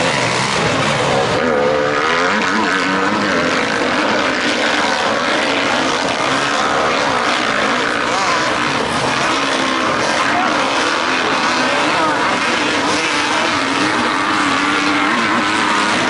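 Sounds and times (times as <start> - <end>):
dirt bike engines racing: 0.0 - 16.0.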